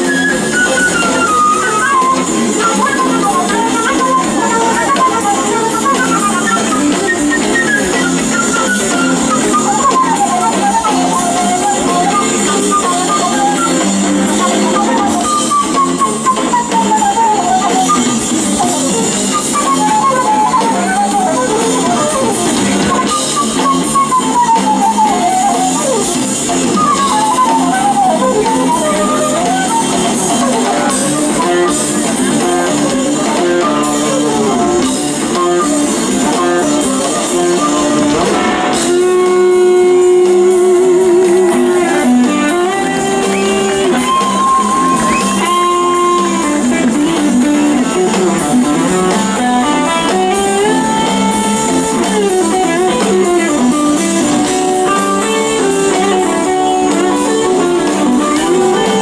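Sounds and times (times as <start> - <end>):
electric guitar solo: 0.0 - 59.0
rock band playing: 0.0 - 59.0.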